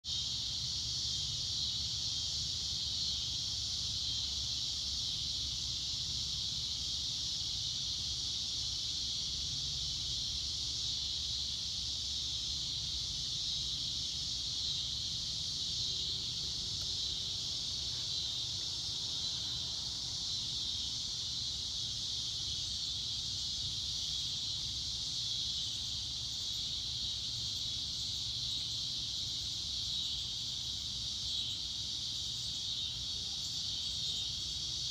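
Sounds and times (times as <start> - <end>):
high-pitched hiss: 0.0 - 34.9.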